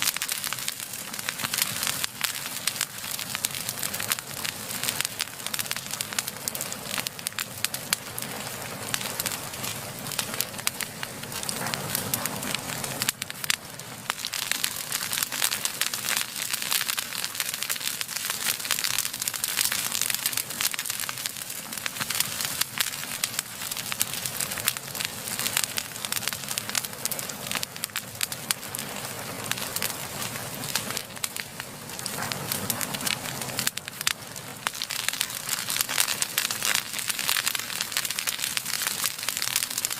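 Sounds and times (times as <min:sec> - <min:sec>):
flames rushing: 0:00.0 - 0:39.9
wood fire crackling and popping: 0:00.0 - 0:39.9.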